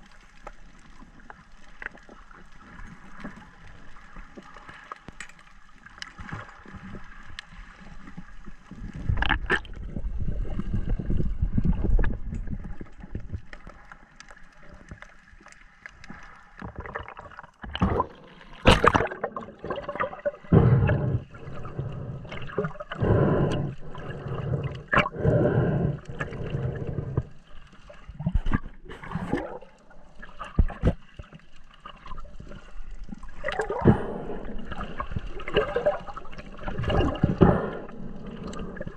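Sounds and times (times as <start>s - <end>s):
water swishing and gurgling: 0.0s - 38.9s.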